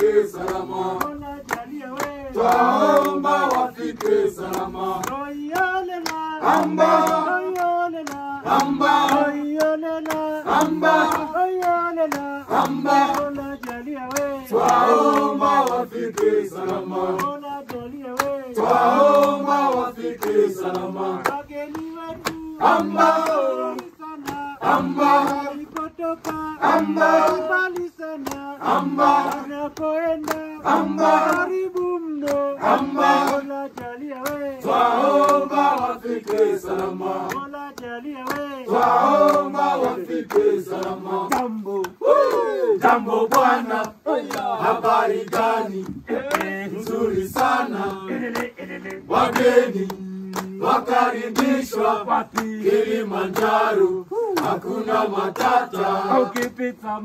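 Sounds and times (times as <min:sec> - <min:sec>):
hands clapping to a beat: 0:00.0 - 0:57.0
men and women singing in chorus: 0:00.0 - 0:57.0.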